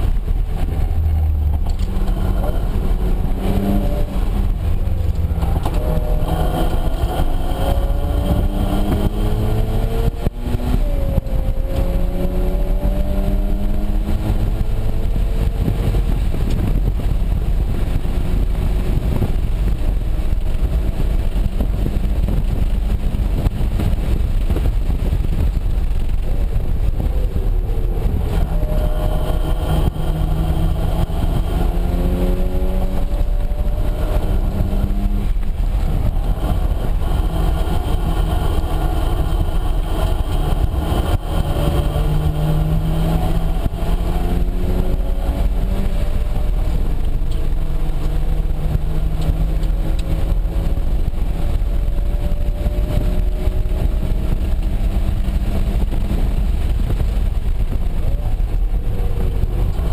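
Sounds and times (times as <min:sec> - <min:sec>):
car engine accelerating: 0:00.0 - 0:59.9
road and wind rumble: 0:00.0 - 0:59.9.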